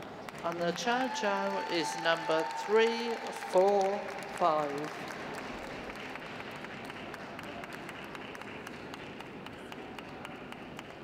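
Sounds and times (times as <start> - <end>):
spectators clapping: 0.0 - 11.0.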